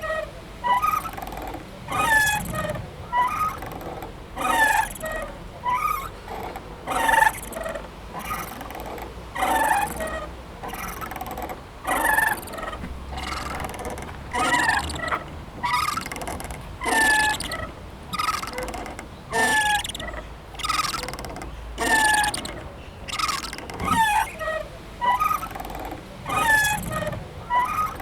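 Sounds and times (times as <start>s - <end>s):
swing squeaking: 0.0s - 28.0s.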